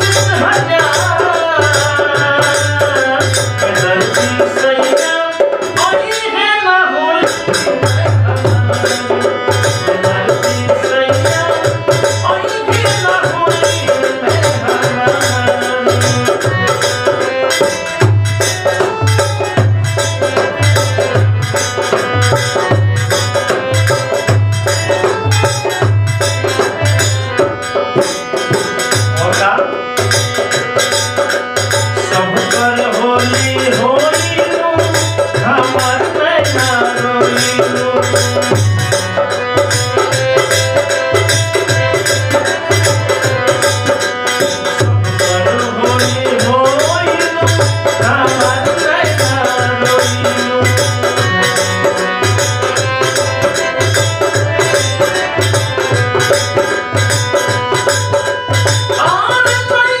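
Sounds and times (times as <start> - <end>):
rattling percussion: 0.0 - 60.0
hand drum beat: 7.2 - 60.0.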